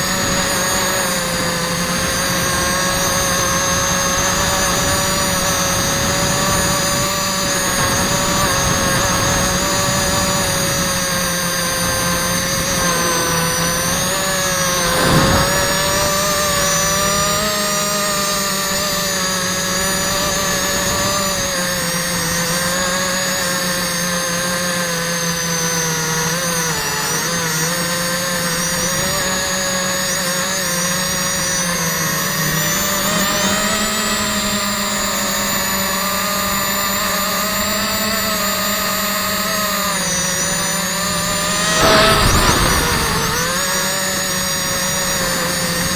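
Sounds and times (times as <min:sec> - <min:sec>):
quadcopter propellers whining: 0:00.0 - 0:45.9.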